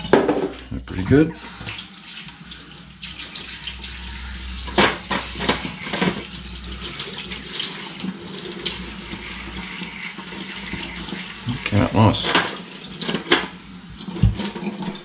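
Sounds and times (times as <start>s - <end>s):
tap water running into sink: 1.3s - 15.0s.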